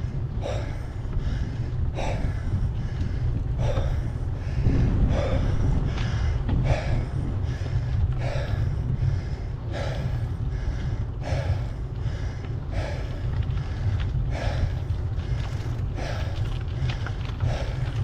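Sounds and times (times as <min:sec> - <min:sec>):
cyclist breathing hard: 0:00.0 - 0:18.0
low rumble: 0:00.0 - 0:18.0.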